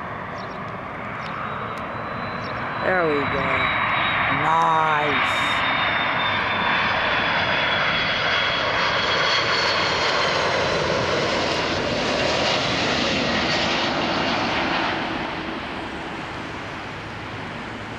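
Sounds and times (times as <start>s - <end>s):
jet engines rush and whine: 0.0s - 17.9s.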